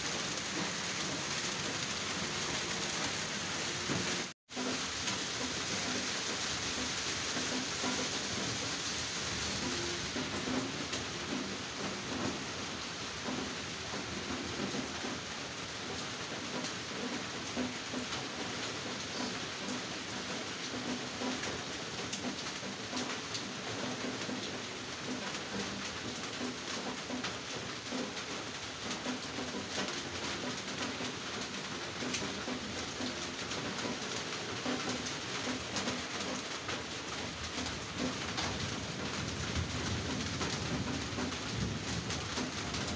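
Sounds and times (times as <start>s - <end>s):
heavy rain on leaves: 0.0s - 42.9s.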